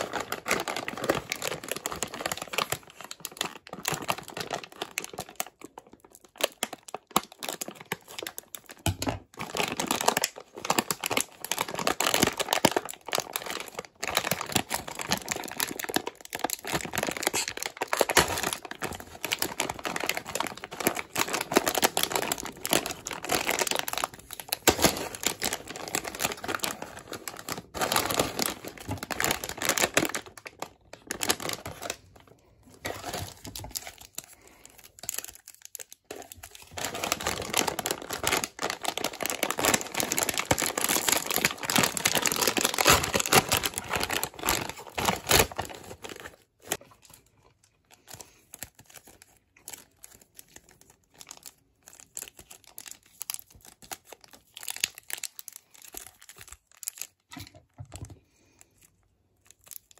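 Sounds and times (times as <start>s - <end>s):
foil packet crinkles: 0.0s - 59.9s
plastic chip bag crinkling: 0.0s - 59.9s.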